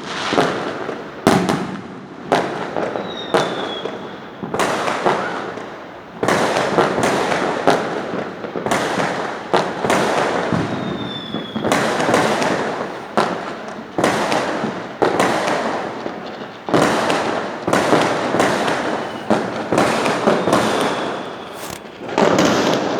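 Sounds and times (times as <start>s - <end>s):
fireworks bursting: 0.0s - 22.9s.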